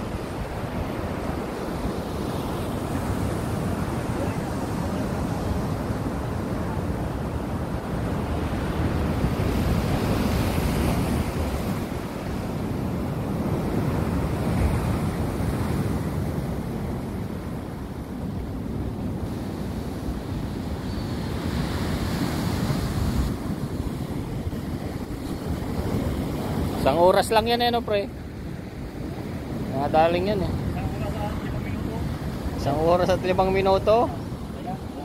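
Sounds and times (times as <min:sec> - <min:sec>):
surf washing against rocks: 0:00.0 - 0:35.0
wind buffeting microphone: 0:00.0 - 0:35.0.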